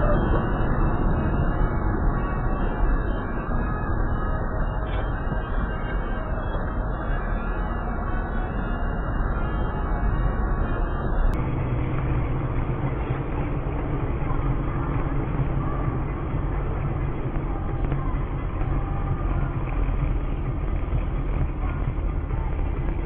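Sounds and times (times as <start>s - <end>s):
car road and engine noise: 0.0s - 23.0s.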